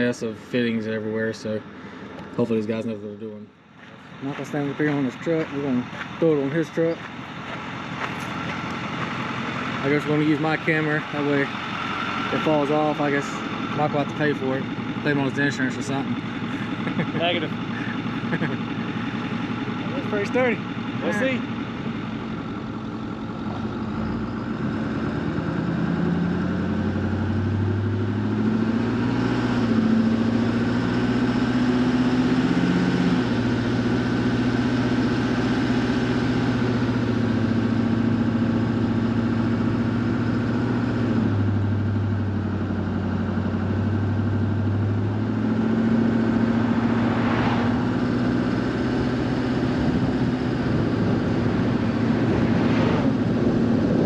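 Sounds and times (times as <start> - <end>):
road and wind noise: 0.0 - 54.0
truck engine running: 0.0 - 54.0.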